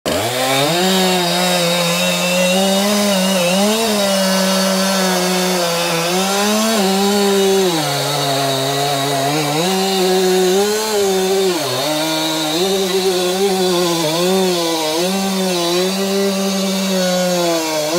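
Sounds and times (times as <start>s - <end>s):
chainsaw cutting wood: 0.0s - 17.9s.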